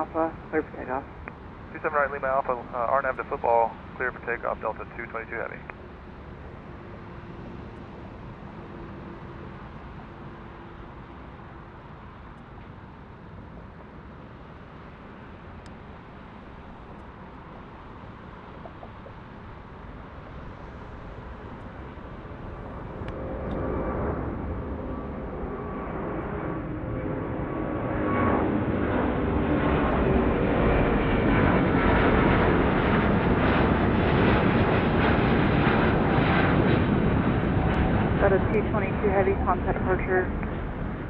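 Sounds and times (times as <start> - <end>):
jet engines roaring at takeoff: 0.0 - 41.0.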